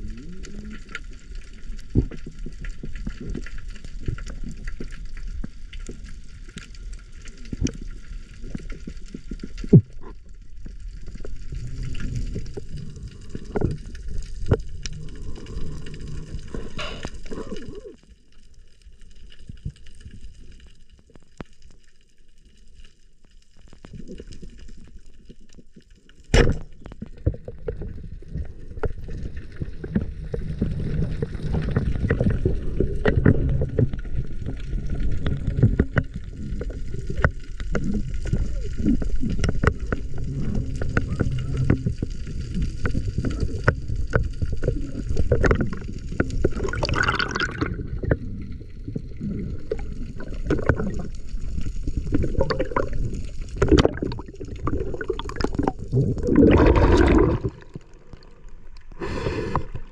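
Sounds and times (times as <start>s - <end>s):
water sloshing and gurgling: 0.0s - 21.8s, 23.6s - 59.9s.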